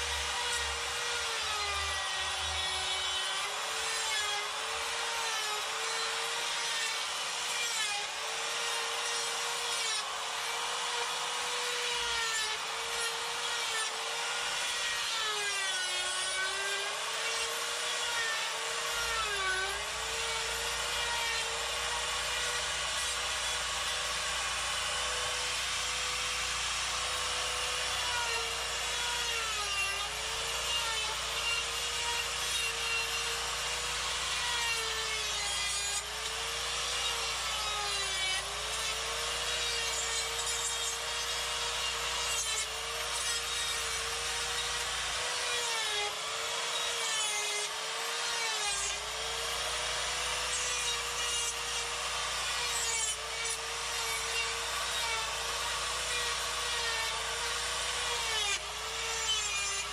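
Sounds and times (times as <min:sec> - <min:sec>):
die grinder cutting wood: 0:00.0 - 0:59.9.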